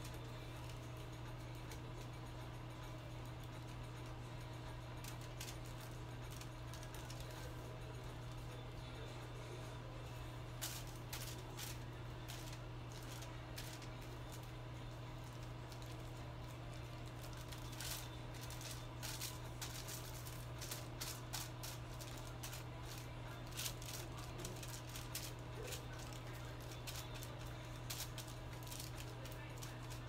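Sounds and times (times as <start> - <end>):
steady low hum: 0.0 - 30.0
aluminium foil crinkling: 3.4 - 8.0, 10.5 - 30.0.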